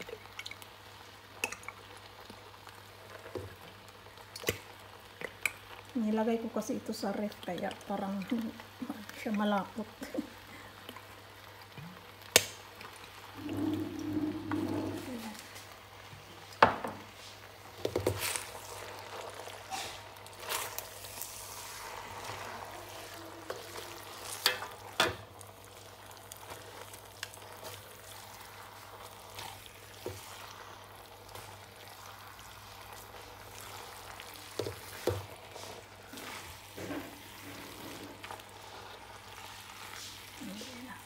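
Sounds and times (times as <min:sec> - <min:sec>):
food sizzling in a wok: 0:00.0 - 0:41.0.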